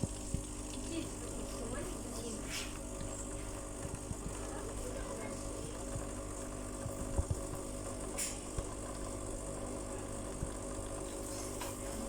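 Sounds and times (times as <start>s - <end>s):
coffee machine buzzing hum: 0.0s - 12.0s.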